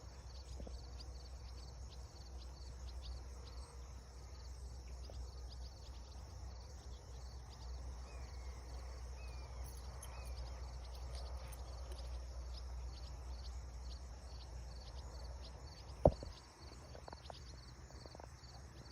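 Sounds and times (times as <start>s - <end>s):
insects chirping: 0.0s - 18.9s.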